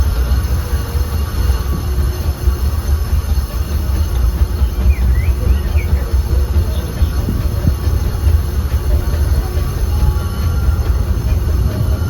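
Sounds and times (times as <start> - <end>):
high wheel squeals: 0.0 - 12.0
train wheels rumbling on rails: 0.0 - 12.0.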